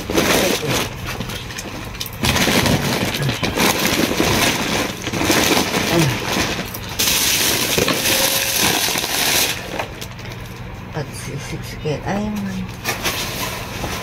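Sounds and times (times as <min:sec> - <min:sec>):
plastic bags rustling: 0:00.0 - 0:10.9, 0:12.6 - 0:14.0.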